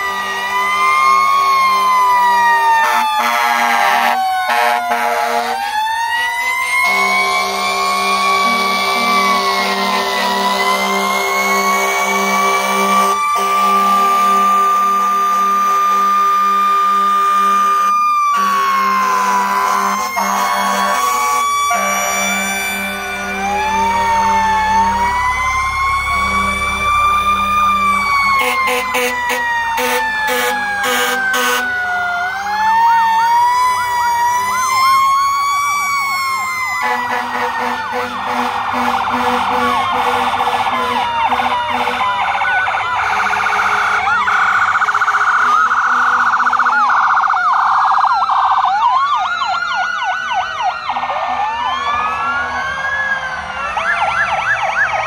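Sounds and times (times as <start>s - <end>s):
siren wailing: 0.0s - 55.0s
sirens yelping: 0.0s - 55.0s.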